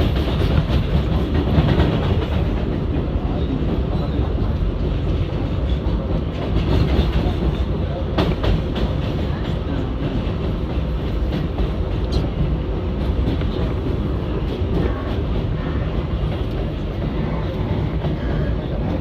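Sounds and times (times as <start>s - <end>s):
subway car wheels rumbling: 0.0s - 19.0s.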